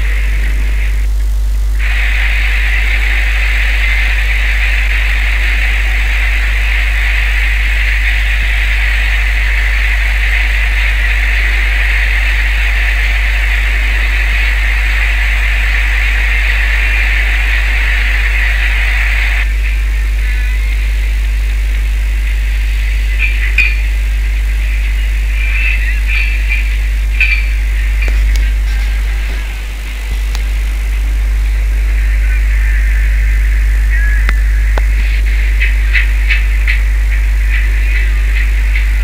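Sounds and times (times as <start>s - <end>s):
boat engine droning: 0.0s - 39.0s
steady hiss: 0.0s - 39.0s.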